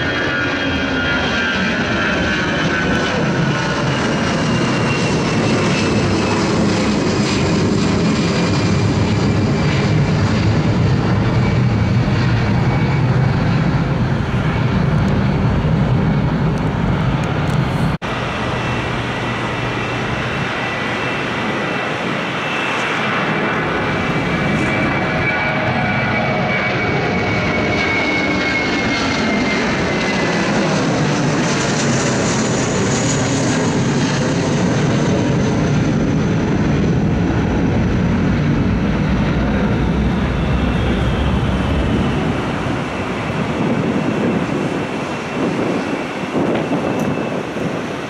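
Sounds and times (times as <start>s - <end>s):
jet airliner roar: 0.0s - 48.0s.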